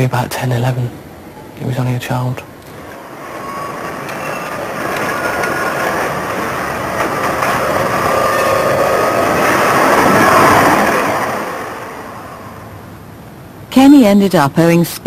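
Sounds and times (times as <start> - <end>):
faint steady whine: 0.0 - 15.0
tram passing on rails: 0.0 - 15.0.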